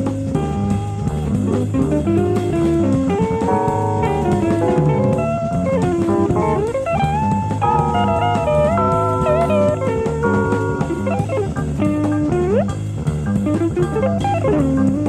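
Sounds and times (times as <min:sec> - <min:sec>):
electric guitar lead: 0:00.0 - 0:15.0
jazz-fusion band playing: 0:00.0 - 0:15.0.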